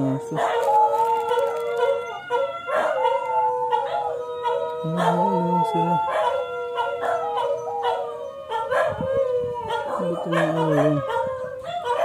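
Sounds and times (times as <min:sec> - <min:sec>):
dogs howling: 0:00.0 - 0:12.0.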